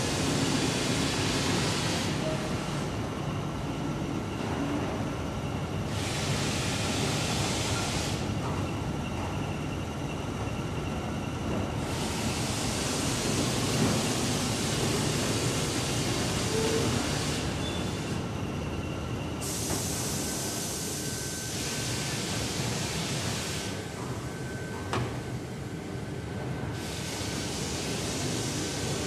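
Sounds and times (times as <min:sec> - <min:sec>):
industrial machinery drone: 0:00.0 - 0:29.0.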